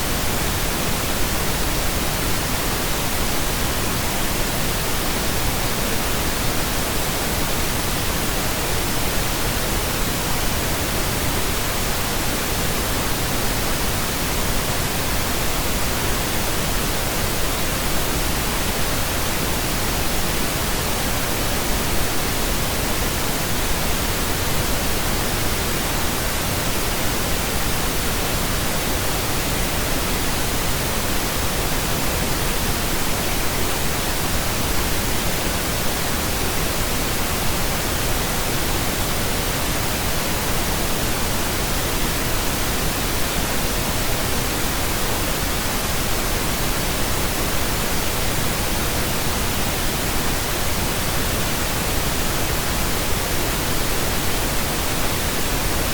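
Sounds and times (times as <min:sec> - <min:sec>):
pink noise hiss: 0:00.0 - 0:55.9.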